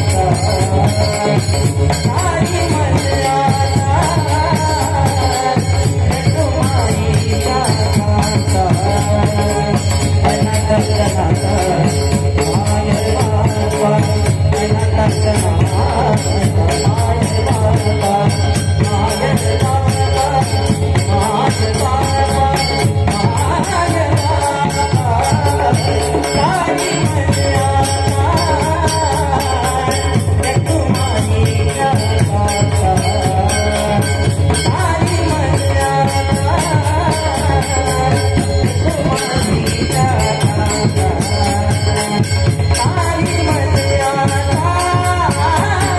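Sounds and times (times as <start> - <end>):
devotional music: 0.0 - 45.9
jingling percussion: 0.0 - 45.9.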